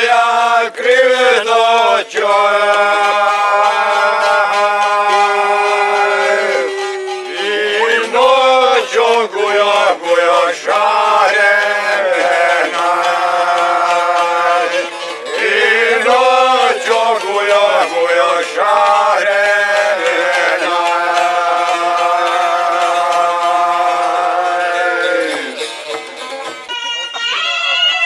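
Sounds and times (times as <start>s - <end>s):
men singing folk song: 0.0s - 25.8s
plucked lutes: 2.3s - 9.8s, 10.9s - 28.0s.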